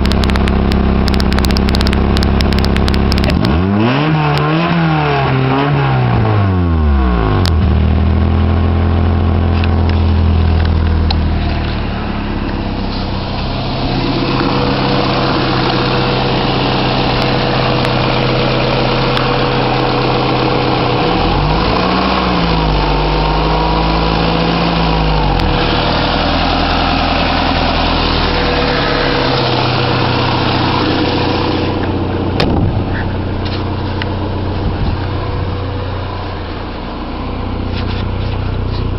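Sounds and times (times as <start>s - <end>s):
car engine with leaking exhaust: 0.0s - 38.9s.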